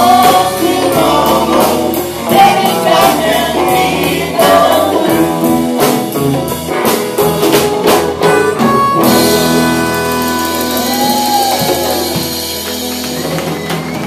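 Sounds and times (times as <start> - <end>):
drums hitting in rhythm: 0.0 - 14.0
folk-blues band playing: 0.0 - 14.0.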